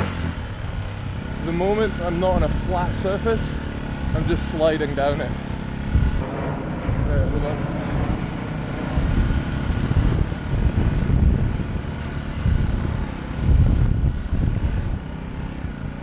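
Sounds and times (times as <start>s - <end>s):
dirt bike engine running: 0.0s - 16.0s
low rumble: 0.0s - 16.0s.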